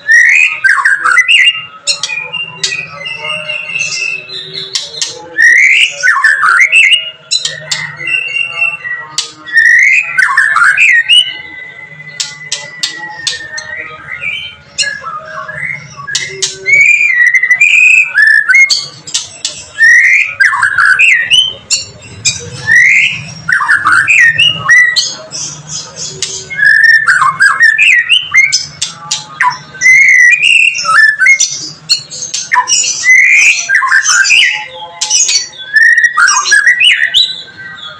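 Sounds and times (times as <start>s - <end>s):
songbird singing whistled phrases: 0.0s - 37.9s.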